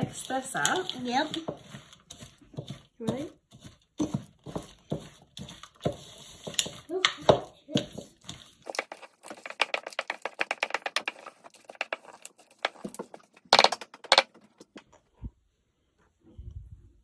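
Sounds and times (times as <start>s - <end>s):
wooden spoon stirring dough: 0.0s - 14.2s.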